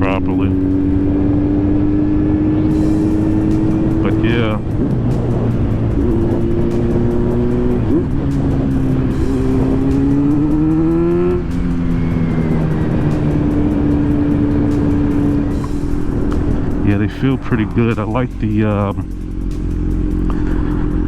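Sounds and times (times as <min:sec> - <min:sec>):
motorcycle engine accelerating: 0:00.0 - 0:21.0
wind rush: 0:00.0 - 0:21.0.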